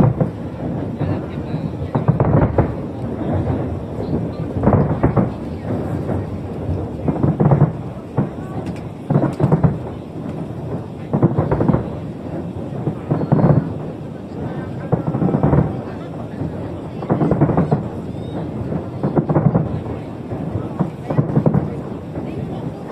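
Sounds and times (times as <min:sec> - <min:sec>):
fireworks booming: 0:00.0 - 0:22.9.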